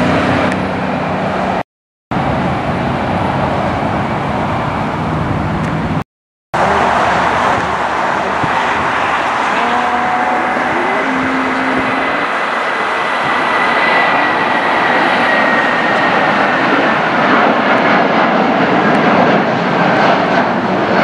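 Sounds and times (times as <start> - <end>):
jet engines passing close: 0.0 - 6.0, 6.6 - 21.0.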